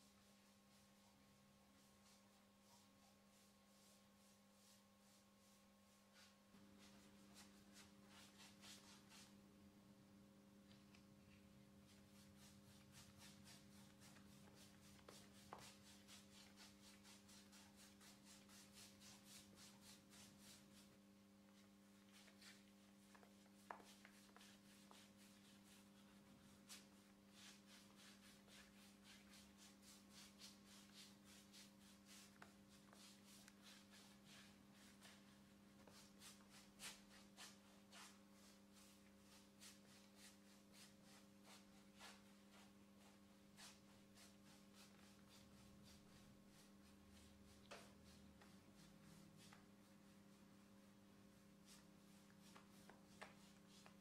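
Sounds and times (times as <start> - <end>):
paintbrush swishing on wood: 0.0 - 9.4, 11.8 - 54.0.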